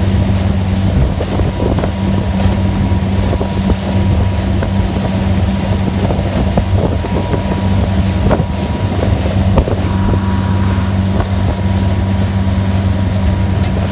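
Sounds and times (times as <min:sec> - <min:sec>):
motorboat engine drone: 0:00.0 - 0:13.9
rushing water: 0:00.0 - 0:13.9
wind buffeting microphone: 0:00.0 - 0:13.9.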